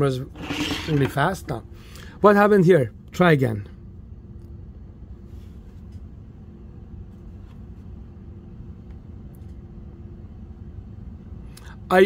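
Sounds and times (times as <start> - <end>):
faint steady hum: 0.0 - 12.0
low steady rumble: 0.0 - 12.0.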